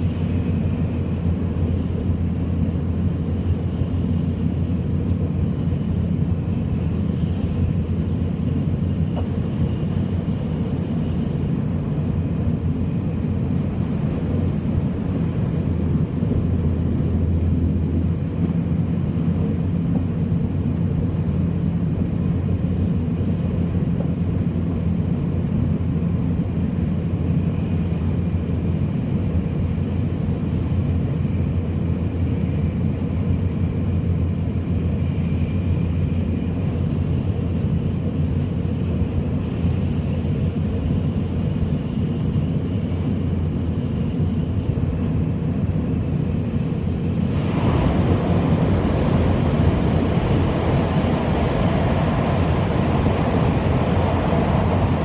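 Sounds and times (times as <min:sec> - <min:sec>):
high-speed train cabin rumble: 0:00.0 - 0:55.0.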